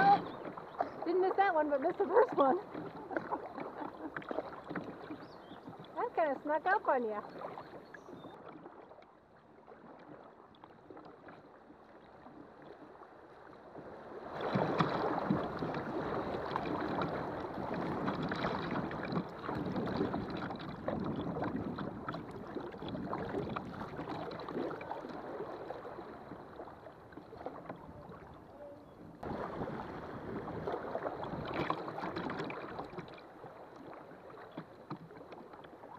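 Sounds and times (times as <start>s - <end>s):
river water rippling and splashing: 0.0s - 35.9s.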